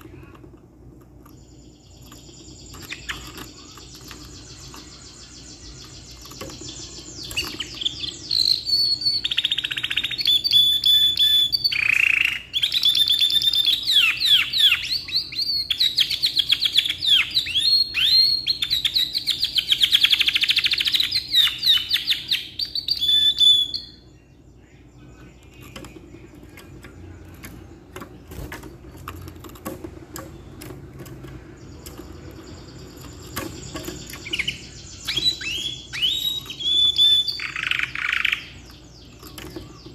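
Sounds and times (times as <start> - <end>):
canary singing trills: 1.1 - 39.9.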